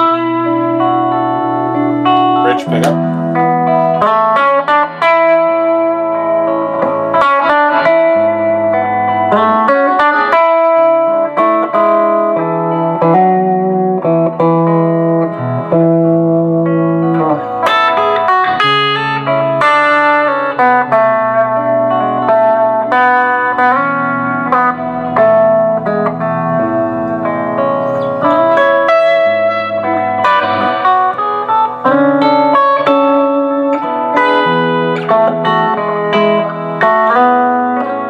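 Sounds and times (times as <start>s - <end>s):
electric guitar lead lines: 0.0s - 38.0s
looped electric guitar chords: 0.0s - 38.0s.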